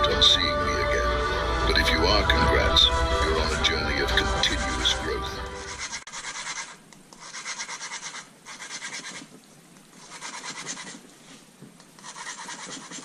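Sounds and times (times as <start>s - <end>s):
valve lapping grinding scratch: 2.3s - 13.0s.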